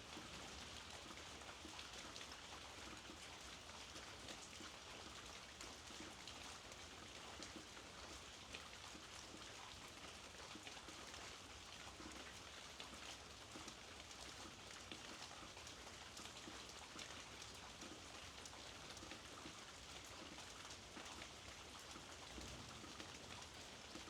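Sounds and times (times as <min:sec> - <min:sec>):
faint rainfall: 0:00.0 - 0:24.0.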